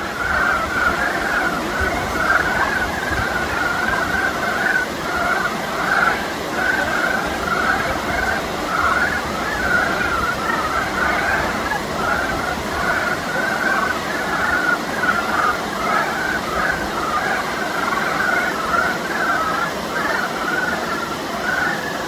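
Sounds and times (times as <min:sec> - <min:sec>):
chorus of frogs clucking: 0:00.0 - 0:22.0.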